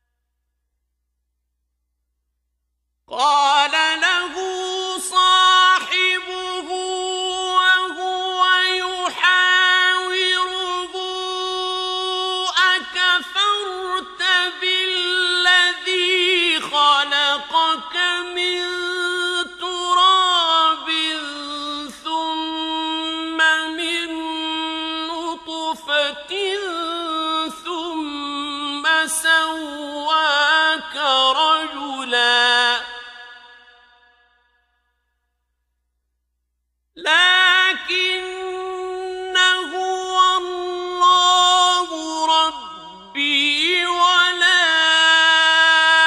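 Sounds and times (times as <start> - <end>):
man chanting melodically: 3.1 - 34.0, 37.0 - 46.0.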